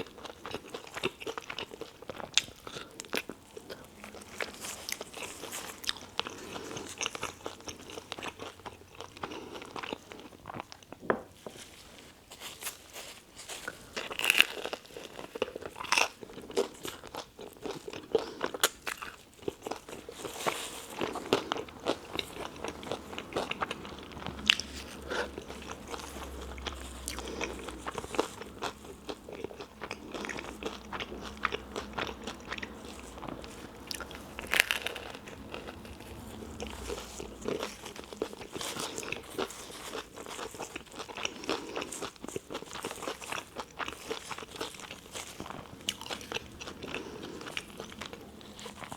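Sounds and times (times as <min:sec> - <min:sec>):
person chewing toasted sandwich: 0:00.0 - 0:48.9.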